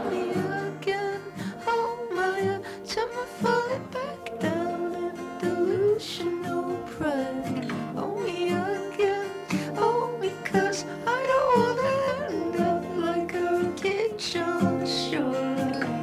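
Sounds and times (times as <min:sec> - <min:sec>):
person singing: 0:00.0 - 0:16.0
plucked acoustic guitar: 0:00.0 - 0:16.0.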